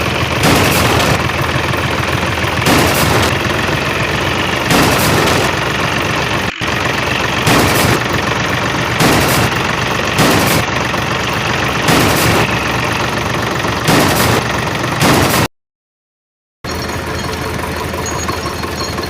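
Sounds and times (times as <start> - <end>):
engine running with surges: 0.0 - 15.5, 16.7 - 19.0.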